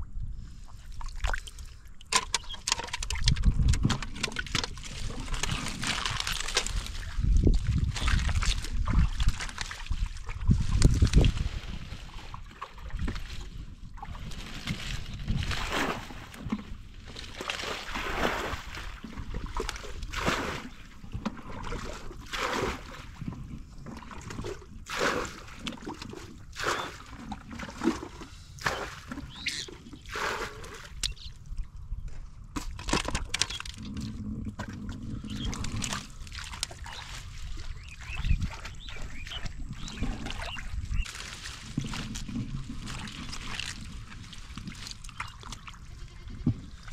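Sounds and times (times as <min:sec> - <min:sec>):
hands splashing in muddy water: 0:02.3 - 0:23.4, 0:24.0 - 0:31.1, 0:35.1 - 0:46.0.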